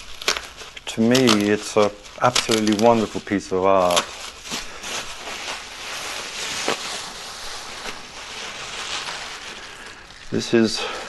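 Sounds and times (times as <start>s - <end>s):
wrapping sheet rustling: 0.0s - 11.0s.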